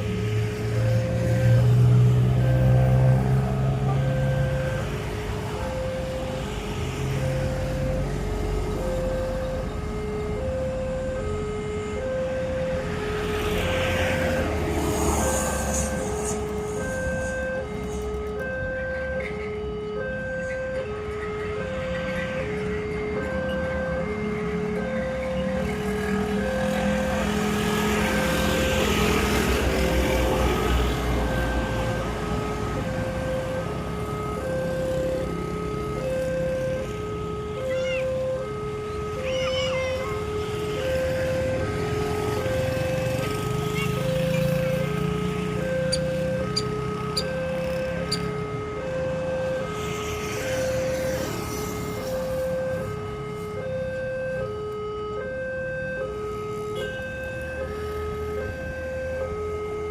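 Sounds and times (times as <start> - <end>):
two-tone crossing alarm: 0.0 - 59.9.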